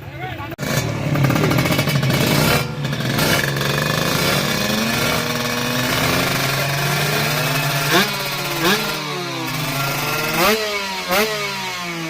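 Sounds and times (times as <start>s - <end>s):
motorcycle engine revving high: 0.6s - 12.0s.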